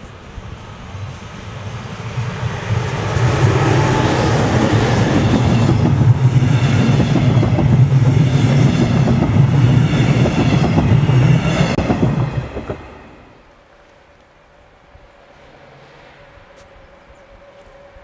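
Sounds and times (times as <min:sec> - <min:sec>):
train passing on rails: 0:00.0 - 0:18.0.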